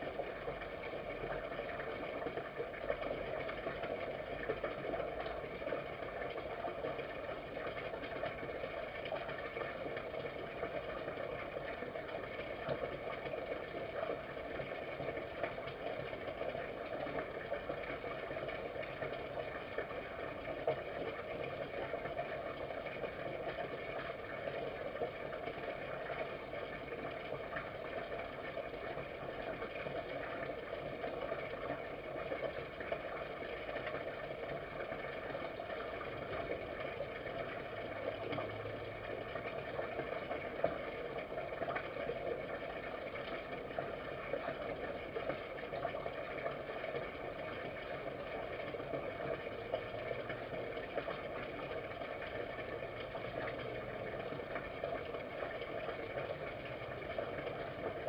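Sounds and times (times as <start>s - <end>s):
background hum and hiss: 0.0s - 58.0s.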